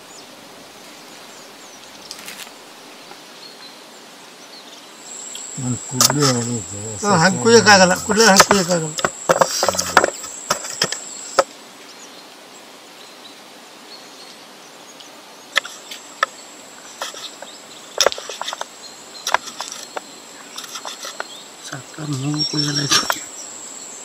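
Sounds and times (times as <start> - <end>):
high insect trill: 0.0 - 24.0.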